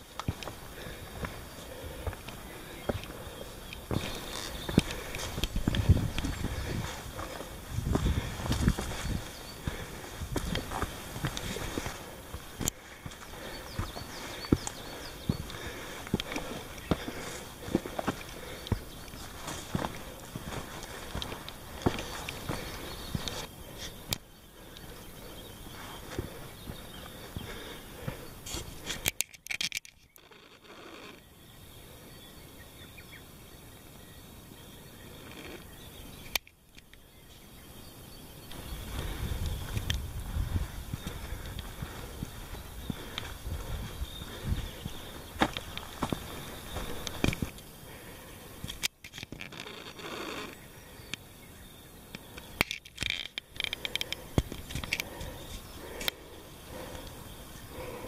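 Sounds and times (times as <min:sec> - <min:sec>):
footsteps on rocky trail: 0:00.0 - 0:29.2, 0:38.4 - 0:50.7, 0:52.2 - 0:58.0
outdoor background noise: 0:00.0 - 0:58.0.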